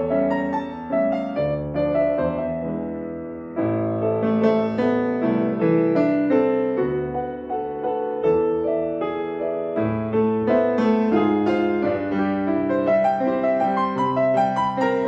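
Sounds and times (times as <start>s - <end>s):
grand piano four hands: 0.0s - 15.0s.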